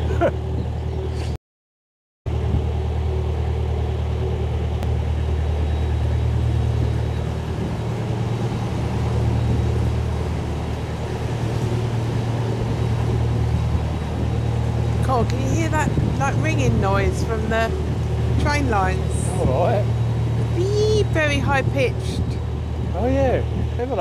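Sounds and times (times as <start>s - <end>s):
diesel engine drone: 0.0s - 1.4s, 2.3s - 24.0s.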